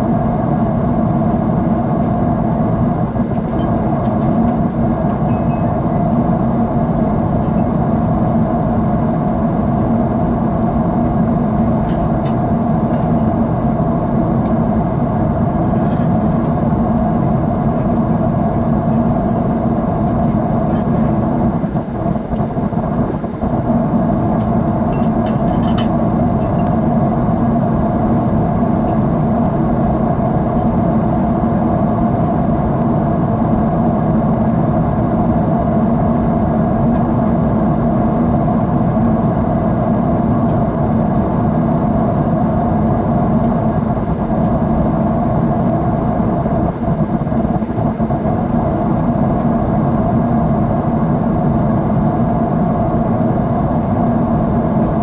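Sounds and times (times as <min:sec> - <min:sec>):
jet engines and airflow in cabin: 0:00.0 - 0:55.0.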